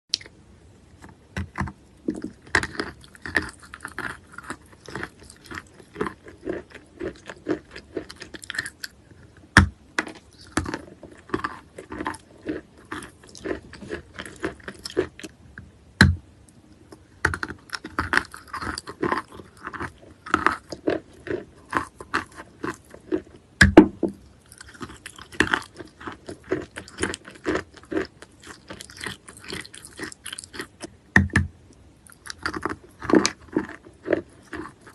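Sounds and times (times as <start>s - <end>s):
chewing and crunching chalk: 0.9s - 15.4s, 16.7s - 23.4s, 24.2s - 31.0s, 31.7s - 34.9s.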